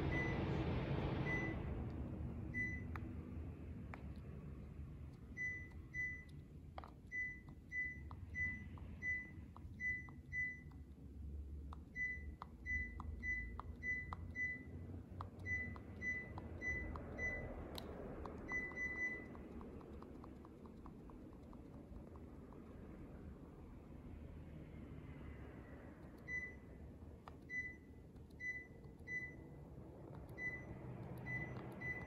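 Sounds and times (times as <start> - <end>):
air conditioner beeping: 0.0 - 23.6, 25.2 - 32.0.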